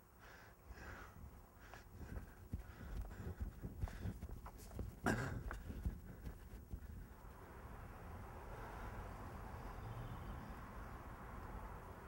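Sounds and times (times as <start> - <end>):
outdoor hiss and rumble: 0.0 - 12.0.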